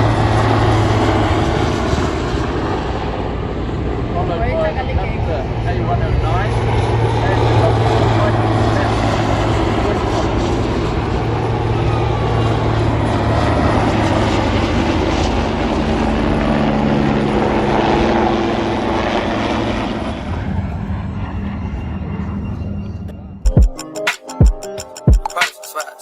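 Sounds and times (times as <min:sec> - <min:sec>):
aircraft engine drone: 0:00.0 - 0:23.5.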